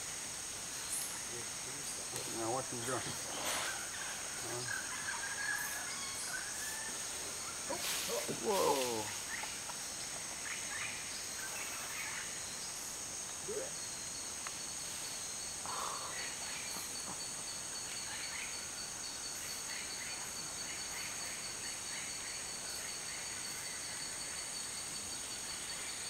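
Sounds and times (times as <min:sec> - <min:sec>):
insect chorus drone: 0:00.0 - 0:26.0
short insect calls: 0:00.0 - 0:26.0.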